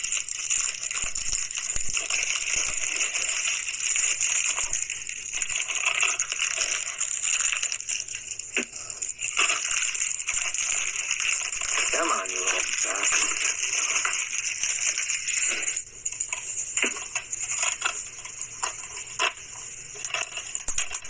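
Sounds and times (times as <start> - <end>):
steady hissing noise: 0.0 - 21.0.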